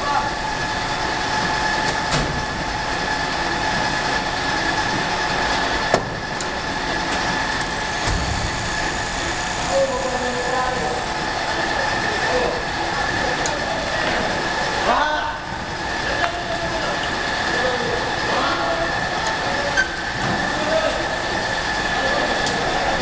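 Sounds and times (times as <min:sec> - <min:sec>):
conveyor mechanical rumble: 0:00.0 - 0:23.0
high whine: 0:00.0 - 0:23.0.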